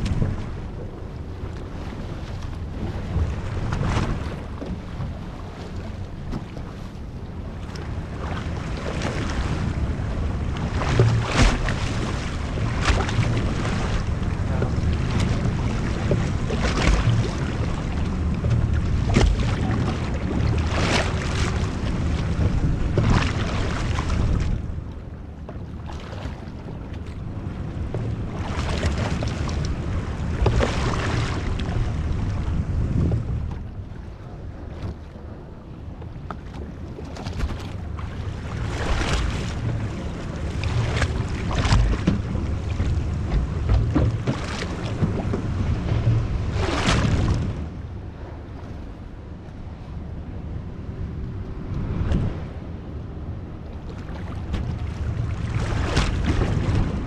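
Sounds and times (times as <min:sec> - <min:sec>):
water splashing against hull: 0:00.0 - 0:57.0
wind rumbling on microphone: 0:00.0 - 0:57.0.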